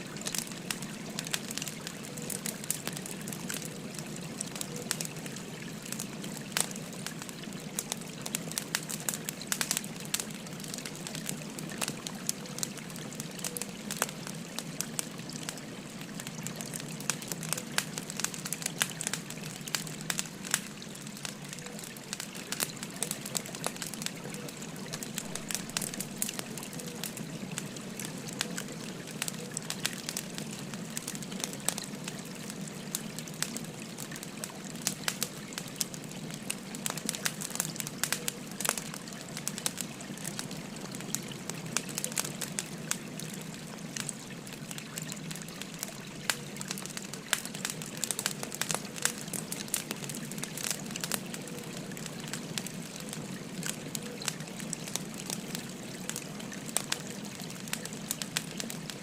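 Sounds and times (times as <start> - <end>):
river babbling: 0.0 - 51.4
wood fire crackling: 0.0 - 59.0.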